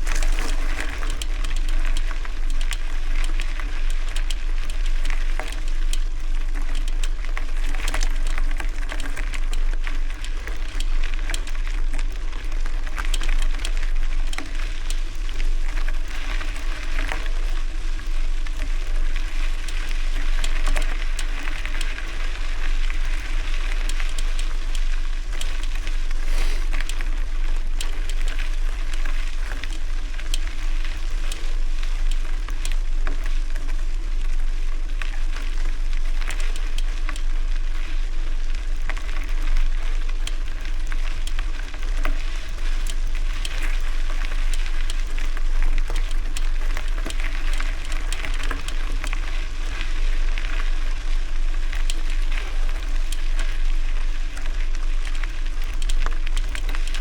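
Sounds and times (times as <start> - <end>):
bicycle tyres rolling over gravel: 0.0 - 57.0.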